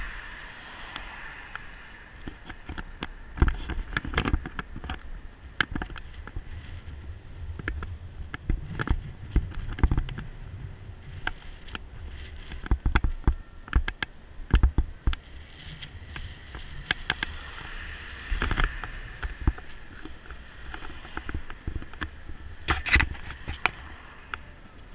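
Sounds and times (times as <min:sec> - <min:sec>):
wheels knocking and rattling: 0:01.5 - 0:24.9.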